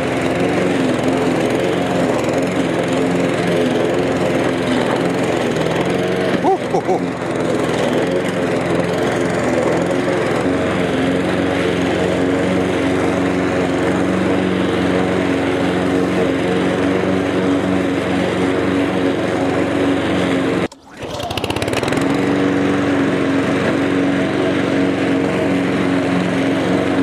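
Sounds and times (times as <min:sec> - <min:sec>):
lawn mower cutting grass: 0:00.0 - 0:27.0.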